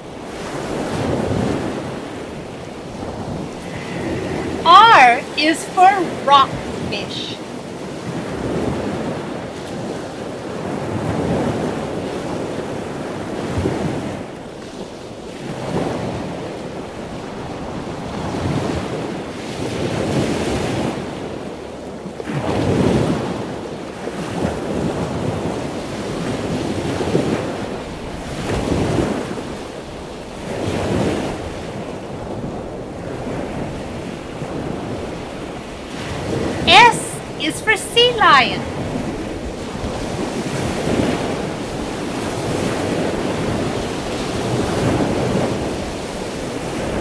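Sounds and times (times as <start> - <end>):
ocean waves washing: 0.0 - 21.4, 22.4 - 47.0.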